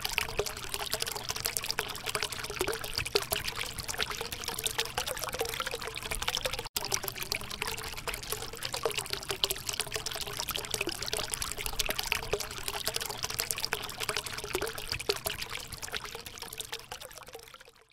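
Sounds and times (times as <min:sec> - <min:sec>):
water trickling and dripping: 0:00.0 - 0:17.9.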